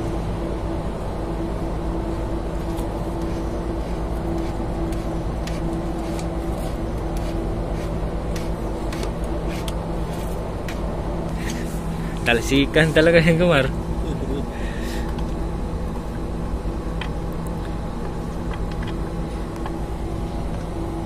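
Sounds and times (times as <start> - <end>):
low steady tones: 0.0 - 21.0
machinery humming: 0.0 - 21.0.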